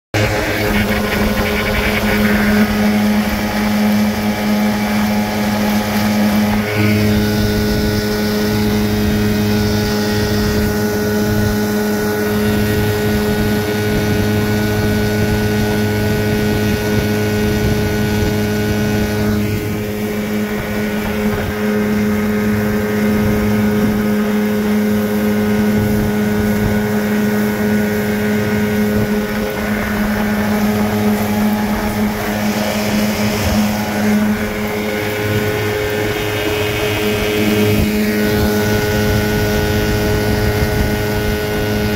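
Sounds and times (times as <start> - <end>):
outboard motor running: 0.1 - 41.9.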